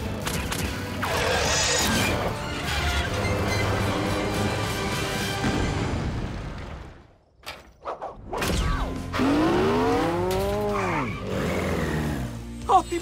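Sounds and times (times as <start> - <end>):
background music: 0.0 - 6.6, 8.3 - 13.0.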